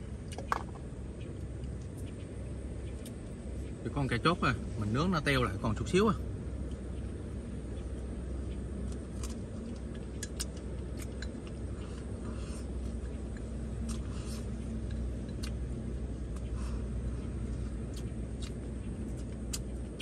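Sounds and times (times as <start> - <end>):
steady low rumble: 0.0 - 20.0
man chewing: 0.1 - 3.8, 6.5 - 20.0.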